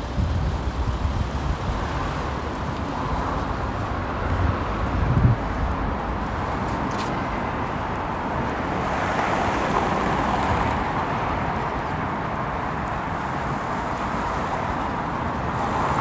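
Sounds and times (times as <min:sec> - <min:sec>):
passing traffic: 0:00.0 - 0:16.0.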